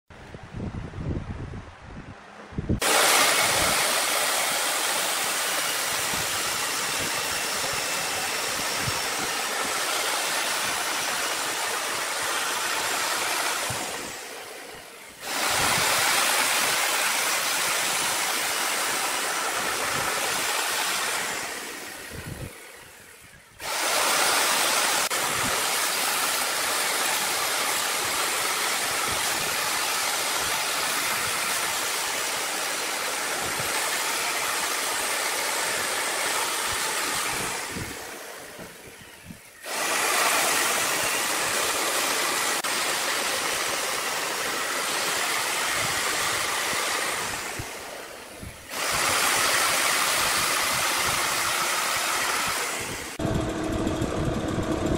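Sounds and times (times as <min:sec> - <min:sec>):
electric chainsaw cutting wood: 0:02.8 - 0:54.9.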